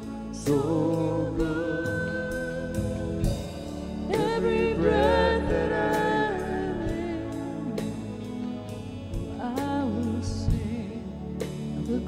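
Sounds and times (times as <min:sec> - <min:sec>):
live band playing: 0:00.0 - 0:12.0
woman singing: 0:00.3 - 0:08.3, 0:09.2 - 0:11.2.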